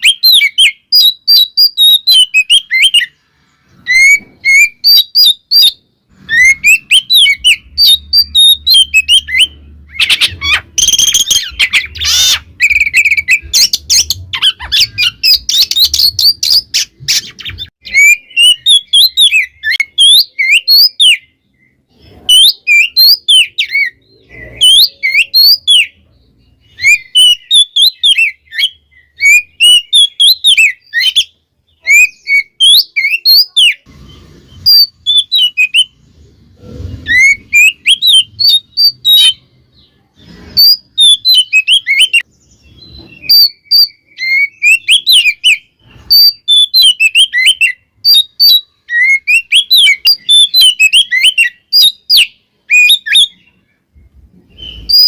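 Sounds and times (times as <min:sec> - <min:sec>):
bird singing whistled phrases: 0:00.0 - 0:03.2, 0:03.8 - 0:26.0, 0:26.6 - 0:33.8, 0:34.6 - 0:36.0, 0:37.1 - 0:39.4, 0:40.6 - 0:53.6, 0:54.5 - 0:55.0.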